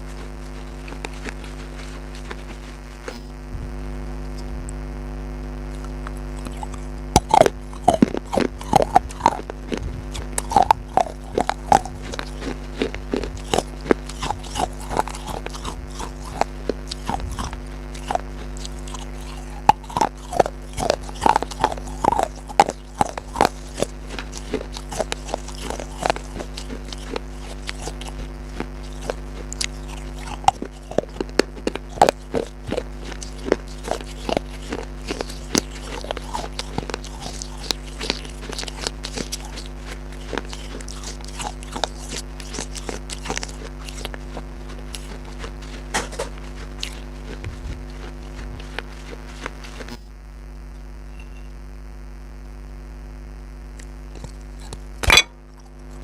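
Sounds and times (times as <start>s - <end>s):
crunchy biting and chewing: 0.0s - 4.8s, 5.7s - 50.1s, 53.8s - 56.0s
steady electrical hum: 0.0s - 56.0s.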